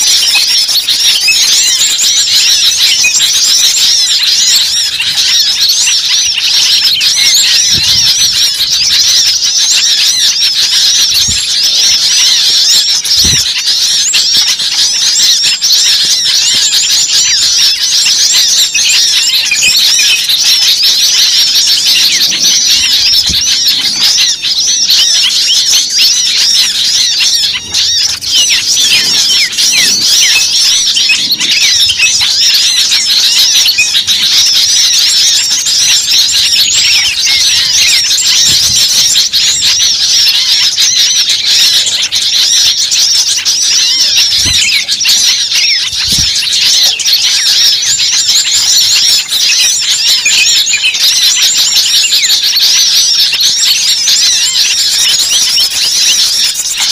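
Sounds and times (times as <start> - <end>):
small birds chirping chorus: 0.0 - 56.9.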